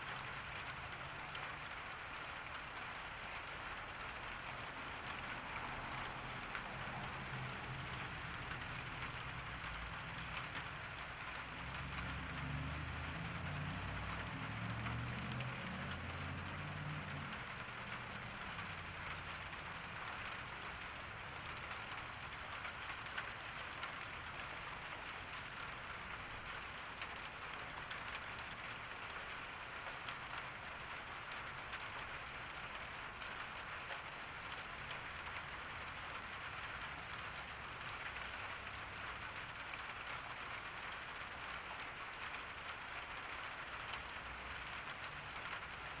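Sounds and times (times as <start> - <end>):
rain pattering on a garden: 0.0 - 46.0.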